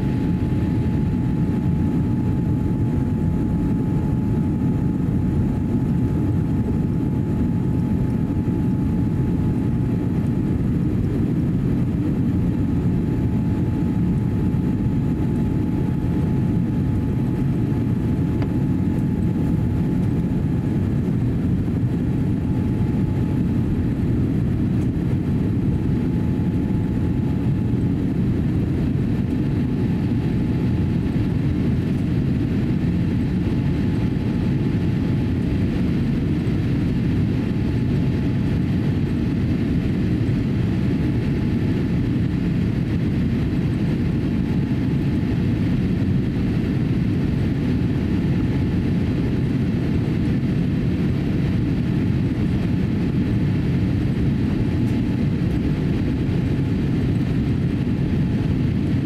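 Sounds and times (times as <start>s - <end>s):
airflow over fuselage: 0.0s - 59.0s
faint steady hum: 0.0s - 59.0s
jet engines rushing: 0.0s - 59.0s.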